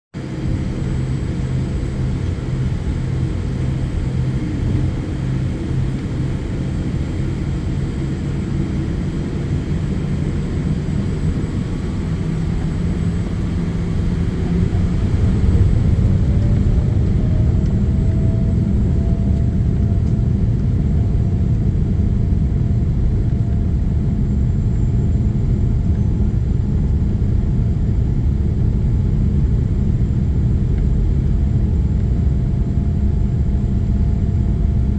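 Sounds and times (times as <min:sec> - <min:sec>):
jet engine whine: 0:00.2 - 0:34.9
jet engines rumbling in cabin: 0:00.2 - 0:34.9.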